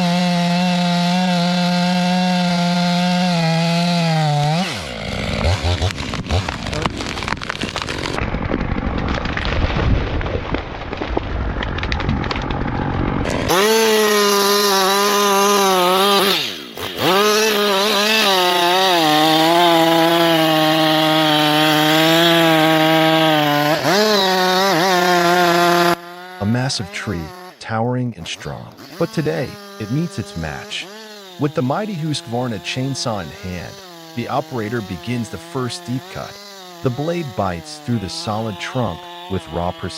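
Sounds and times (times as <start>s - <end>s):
chainsaw at full throttle: 0.0s - 9.8s, 11.7s - 27.6s, 28.3s - 39.9s
crackling sawing noise: 0.0s - 39.9s.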